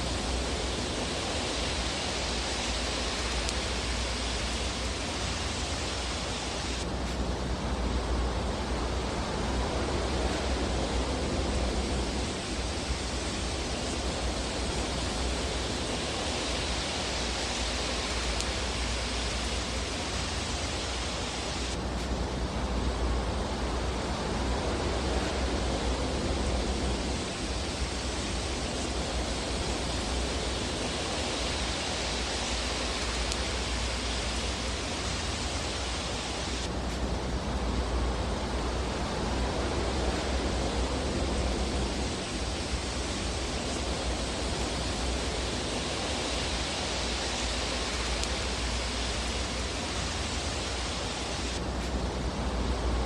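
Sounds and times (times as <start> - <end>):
fire burning in fireplace: 0.0 - 53.0.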